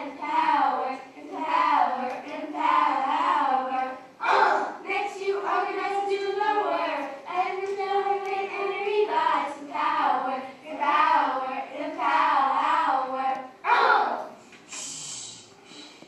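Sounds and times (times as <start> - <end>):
children singing: 0.0 - 14.4.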